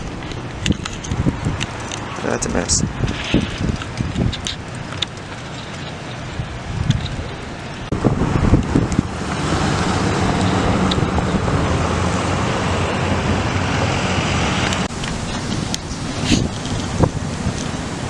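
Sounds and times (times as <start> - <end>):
car engine and road noise: 0.0 - 18.0
wind rushing: 0.0 - 18.0.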